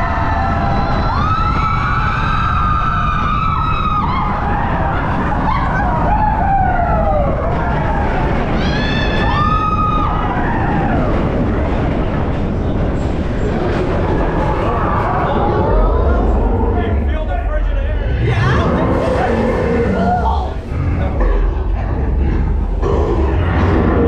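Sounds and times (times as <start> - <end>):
people screaming: 0.0 - 11.9, 13.5 - 24.0
roller coaster rumbling on track: 0.0 - 24.0.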